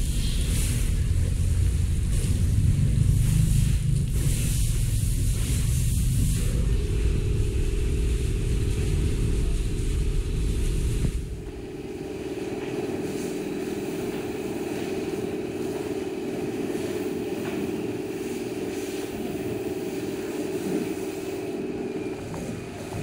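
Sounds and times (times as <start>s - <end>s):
hose water splashing on vehicle: 0.0s - 23.0s
steady motor hum: 0.0s - 23.0s.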